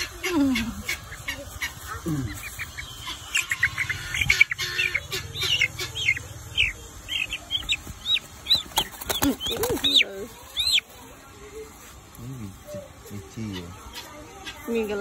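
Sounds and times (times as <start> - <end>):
chick distress chirps: 0.0 - 15.0.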